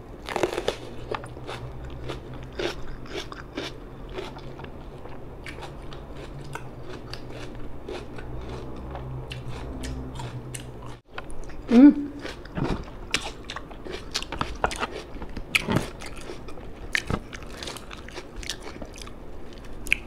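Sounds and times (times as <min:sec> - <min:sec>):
crunchy chewing: 0:00.2 - 0:20.0.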